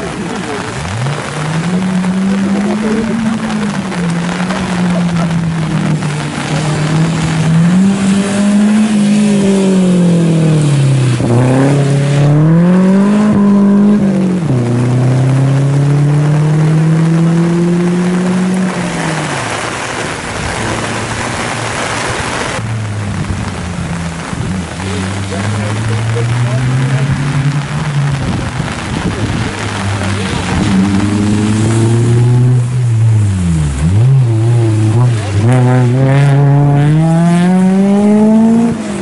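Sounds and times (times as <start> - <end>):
rally car engine revving: 0.0 - 39.0
steady rain hiss: 0.0 - 39.0.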